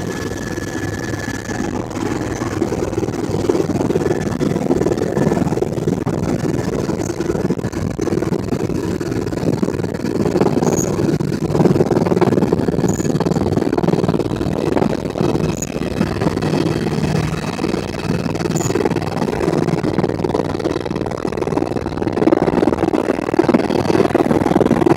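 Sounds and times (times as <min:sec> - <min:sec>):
helicopter engine and rotor: 0:00.0 - 0:24.9.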